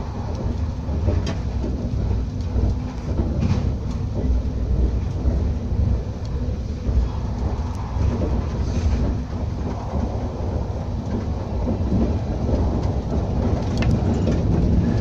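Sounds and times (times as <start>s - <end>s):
train interior low rumble: 0.0s - 15.0s.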